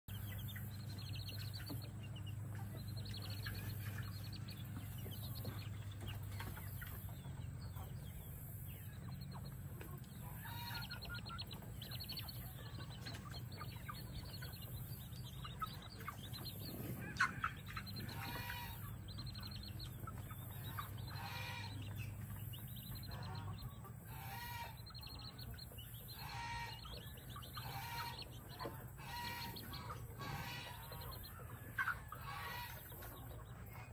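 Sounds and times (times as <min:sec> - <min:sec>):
chicks peeping: 0:00.1 - 0:33.9
hen clucking: 0:00.1 - 0:33.9
steady low hum: 0:00.1 - 0:33.9.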